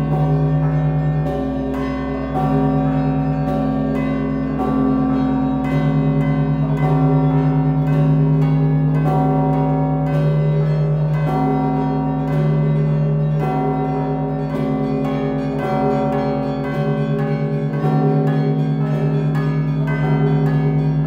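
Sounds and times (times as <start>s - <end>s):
large bells struck: 0.0s - 21.0s.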